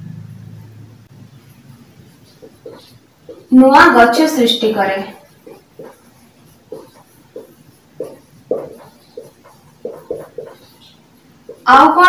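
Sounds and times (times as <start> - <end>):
marker writing on whiteboard: 1.4 - 12.0.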